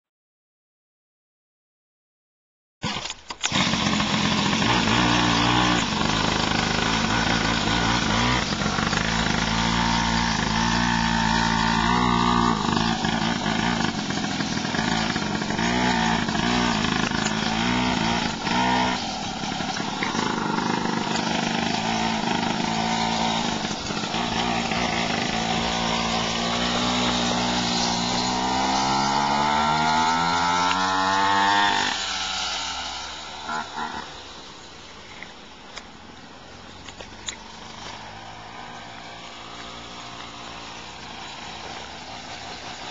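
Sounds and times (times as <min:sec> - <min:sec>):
engine running and revving: 0:02.8 - 0:34.5, 0:36.9 - 0:42.9.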